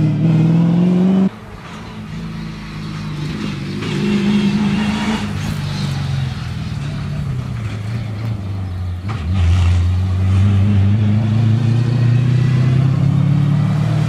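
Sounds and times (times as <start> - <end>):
van engine driving hard: 0.0 - 14.0.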